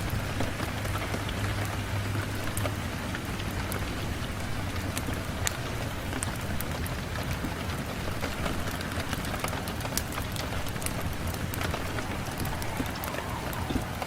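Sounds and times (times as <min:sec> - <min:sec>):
rain pattering on a window: 0:00.0 - 0:14.0.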